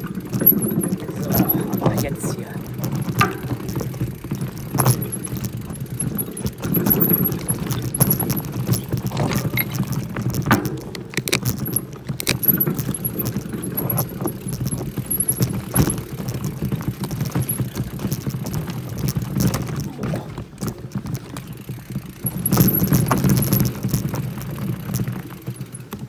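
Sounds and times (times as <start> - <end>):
bike metallic rattle: 0.0 - 26.0.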